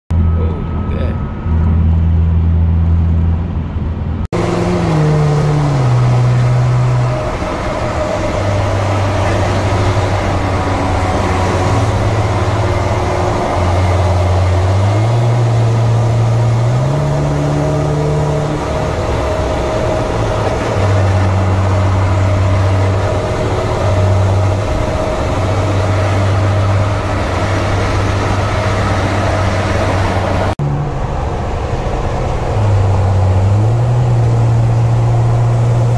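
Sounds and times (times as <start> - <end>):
vehicle road and engine noise: 0.1 - 35.9.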